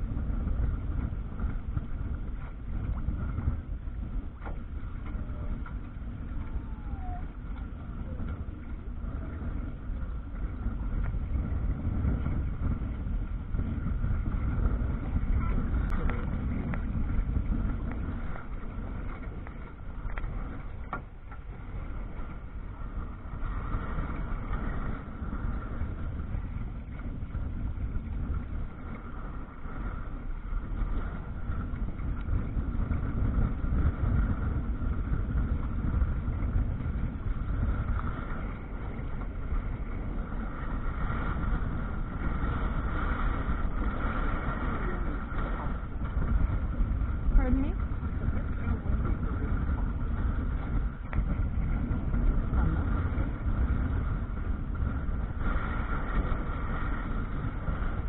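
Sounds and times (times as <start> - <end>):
water splashing along a hull: 0.0 - 58.0
wind buffeting microphone: 0.0 - 58.0.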